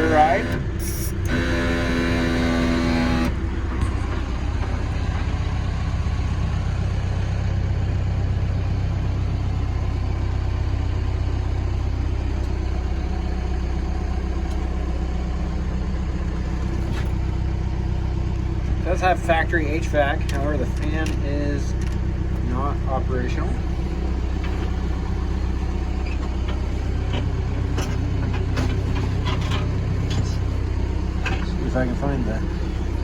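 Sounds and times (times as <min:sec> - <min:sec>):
diesel engine idling: 0:00.0 - 0:33.0
pitched hum: 0:00.0 - 0:33.0.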